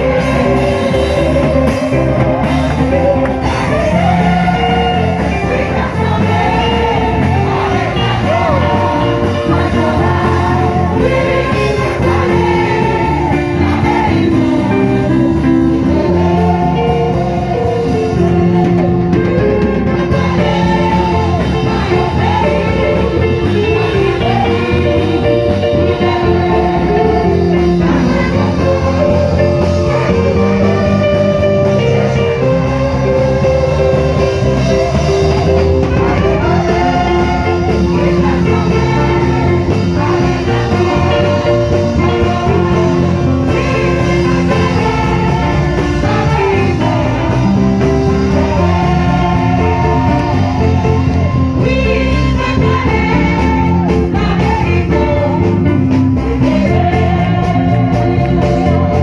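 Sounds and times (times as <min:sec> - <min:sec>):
gospel singing over guitar: 0:00.0 - 0:59.0.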